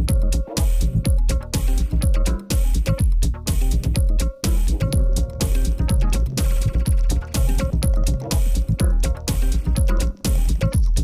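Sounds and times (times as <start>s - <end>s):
kick-drum beat: 0.0s - 11.0s.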